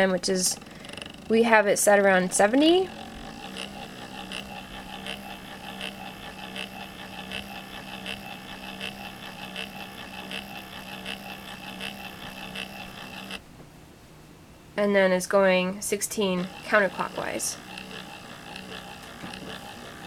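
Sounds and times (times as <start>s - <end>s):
stepper motor humming and ticking: 0.0s - 13.4s, 15.7s - 20.0s.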